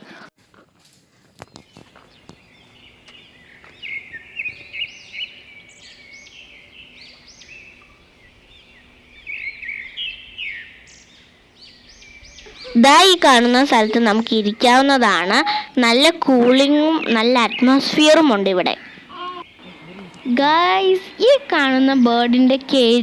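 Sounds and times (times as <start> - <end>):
wild birds chirping: 1.0 - 23.0.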